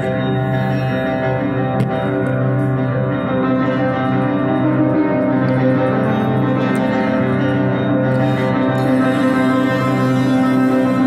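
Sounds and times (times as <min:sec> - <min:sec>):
ambient music of held tones: 0:00.0 - 0:11.0.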